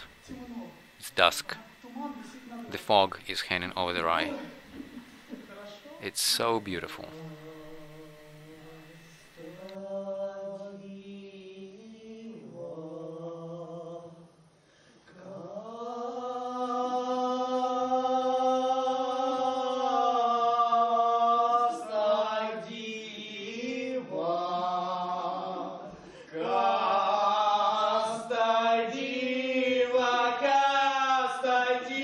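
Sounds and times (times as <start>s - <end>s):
men singing unaccompanied: 0.0s - 14.3s, 15.1s - 32.0s.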